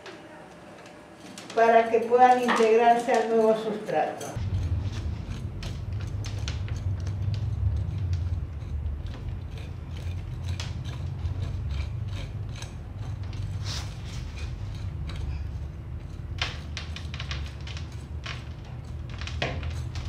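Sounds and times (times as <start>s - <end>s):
steady low hum: 0.0s - 20.0s
metal hook scraping roots: 1.2s - 20.0s.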